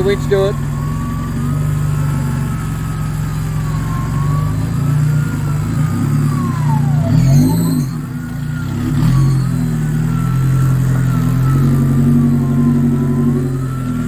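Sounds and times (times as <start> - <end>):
vehicle engine running: 0.0 - 14.0
winch whining: 0.0 - 14.0.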